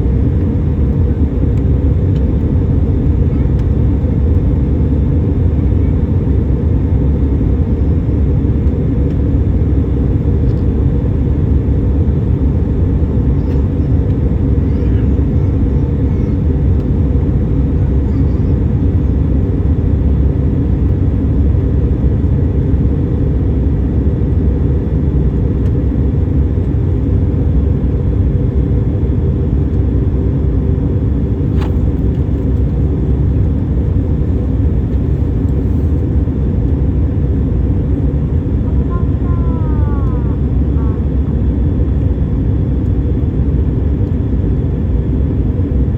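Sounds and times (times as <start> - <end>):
airliner cabin roar: 0.0 - 45.9.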